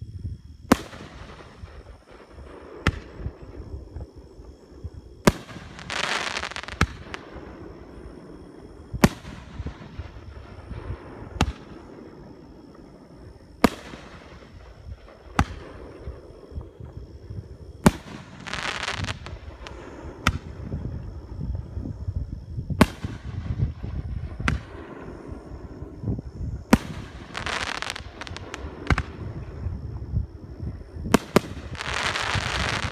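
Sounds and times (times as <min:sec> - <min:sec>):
firework crackling: 0:00.7 - 0:21.6, 0:22.8 - 0:30.1, 0:31.0 - 0:32.9.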